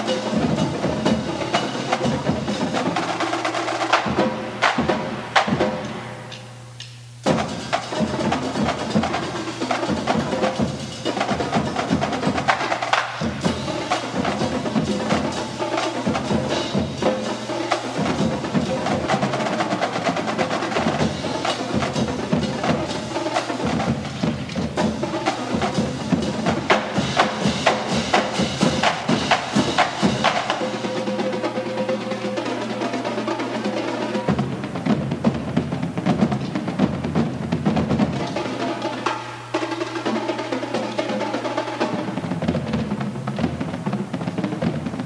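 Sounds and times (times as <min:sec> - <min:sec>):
drumline playing cadence: 0:00.0 - 0:45.0.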